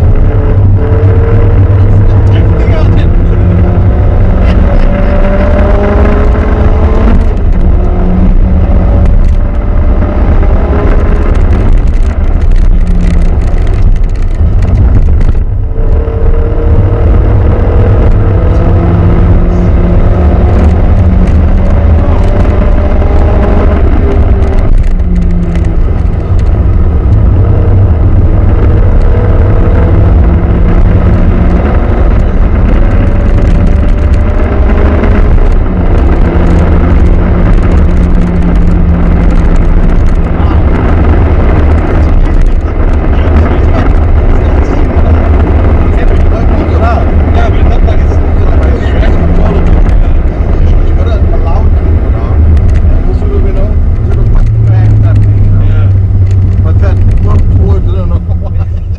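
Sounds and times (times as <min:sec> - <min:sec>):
car engine revving hard: 0:00.0 - 0:58.9
heavy low rumble: 0:00.0 - 0:58.9.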